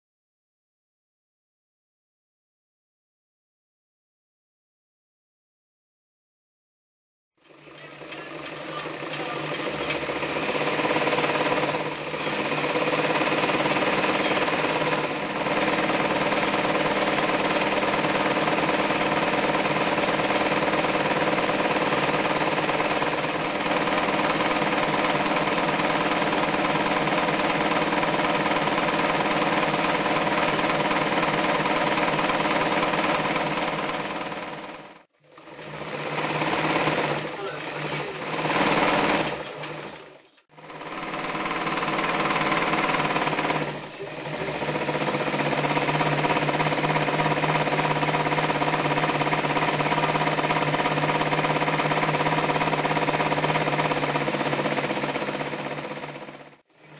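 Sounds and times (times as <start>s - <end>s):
sewing machine stitching: 7.4s - 56.9s.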